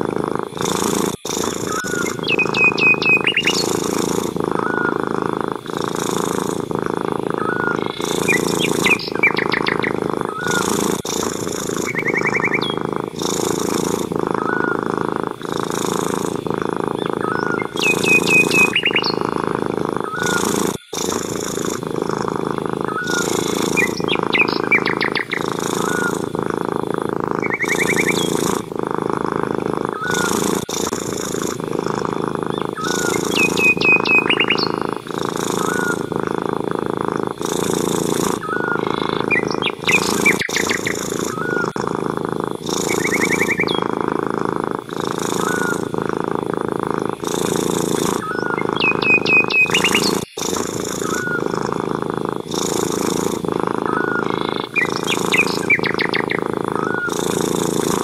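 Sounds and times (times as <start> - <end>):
cat purring: 0.0 - 58.0
small birds chirping: 0.0 - 58.0.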